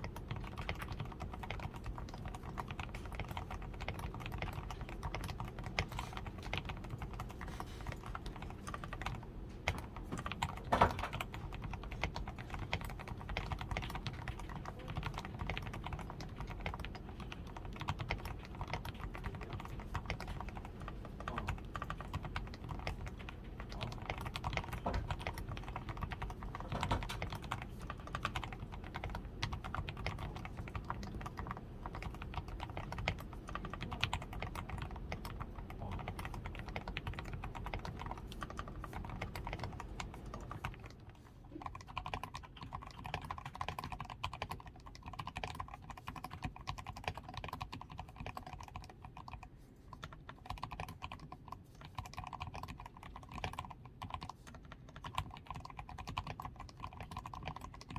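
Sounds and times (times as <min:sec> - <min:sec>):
mechanical keyboard typing: 0:00.0 - 0:57.9.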